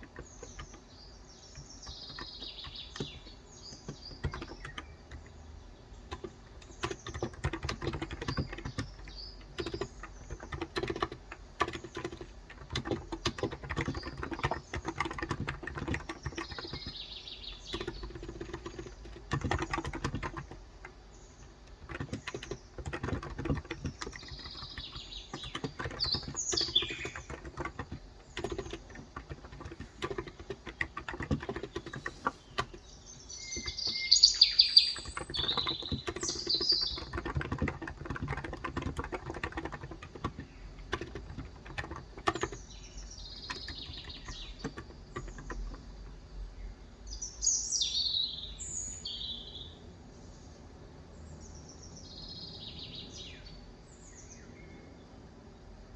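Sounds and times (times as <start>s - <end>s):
typing on keyboard: 0.0s - 5.4s, 6.0s - 46.2s
small birds chirping: 0.0s - 55.9s.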